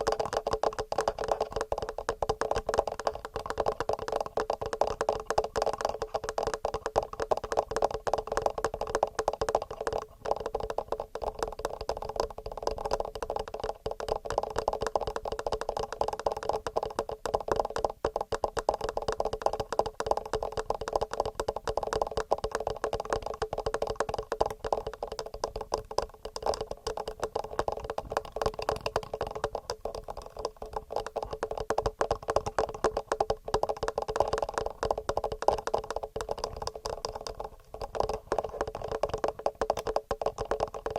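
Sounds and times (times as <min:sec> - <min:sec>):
fingernail tapping on microphone: 0:00.0 - 0:40.9.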